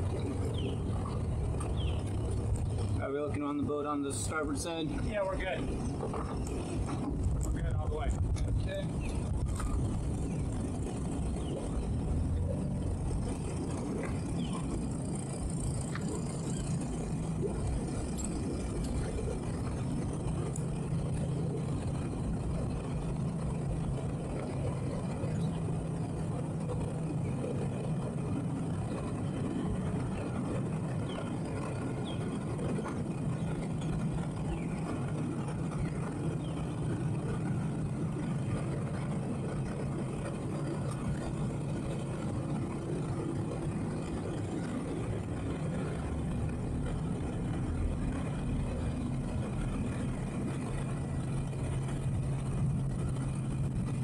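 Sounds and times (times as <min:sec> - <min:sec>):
boat engine low drone: 0:00.0 - 0:54.0.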